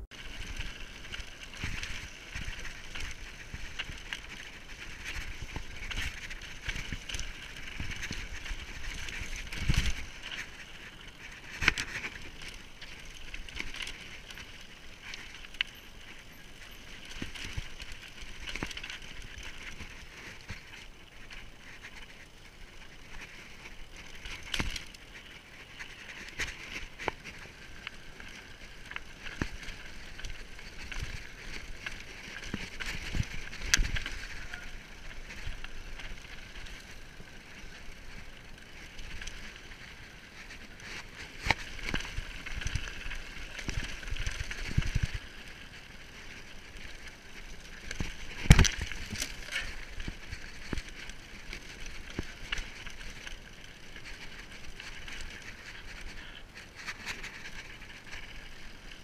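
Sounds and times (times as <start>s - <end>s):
bike tyres rushing rattle: 0.0s - 59.0s.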